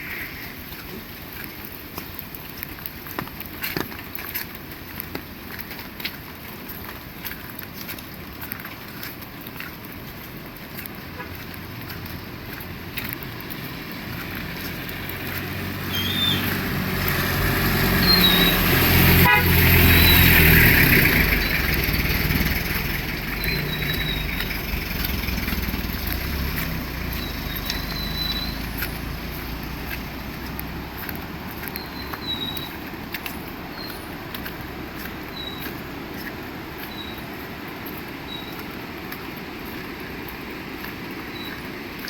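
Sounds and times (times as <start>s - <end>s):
rain hiss: 0.0s - 42.0s
vehicle driving past on wet road: 4.4s - 42.0s.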